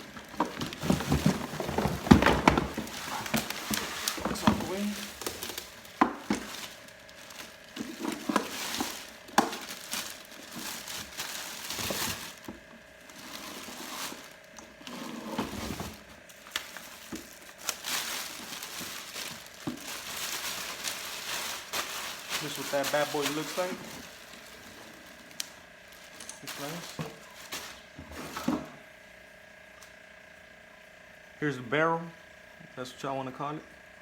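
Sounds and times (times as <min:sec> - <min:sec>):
plastic and cardboard crinkling: 0:00.0 - 0:28.8.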